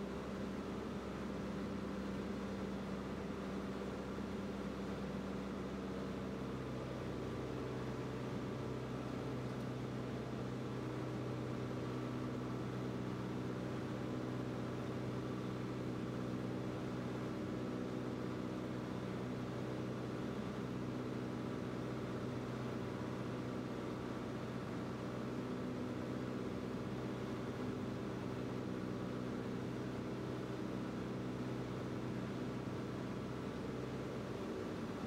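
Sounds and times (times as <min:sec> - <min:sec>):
light aircraft engine drone: 0:00.0 - 0:35.0.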